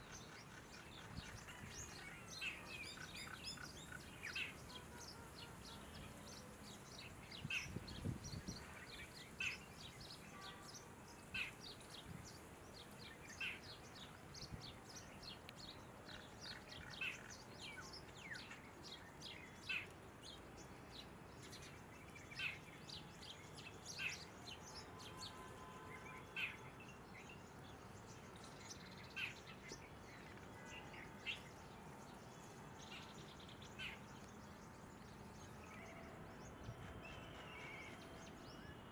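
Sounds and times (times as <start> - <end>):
steady outdoor hiss: 0.0 - 38.9.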